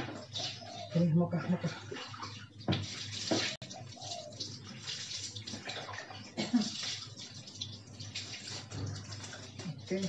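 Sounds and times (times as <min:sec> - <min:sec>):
water splashing on tiled floor: 0:00.0 - 0:10.0
water pouring over dog: 0:01.5 - 0:10.0.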